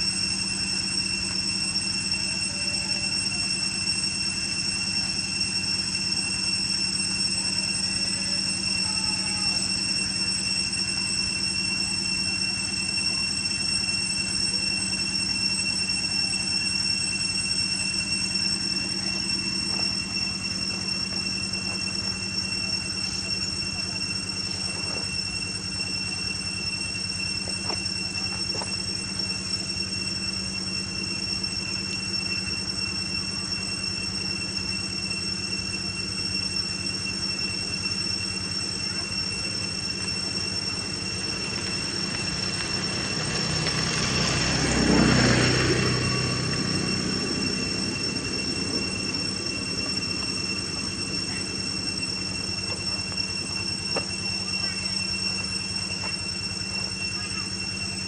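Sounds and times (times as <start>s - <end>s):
high-pitched whine: 0.0s - 58.0s
low hum: 0.0s - 58.0s.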